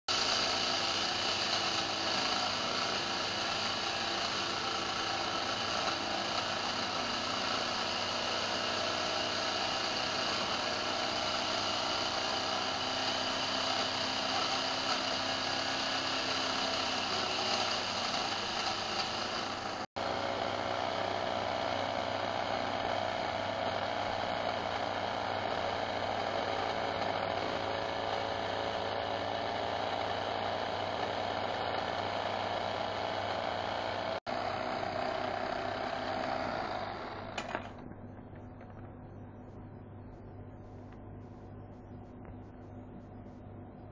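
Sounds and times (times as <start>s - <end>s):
lathe running: 0.1s - 37.8s.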